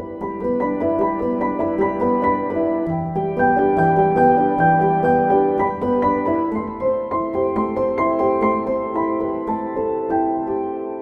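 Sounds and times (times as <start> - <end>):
slow ambient piano music: 0.0 - 11.0.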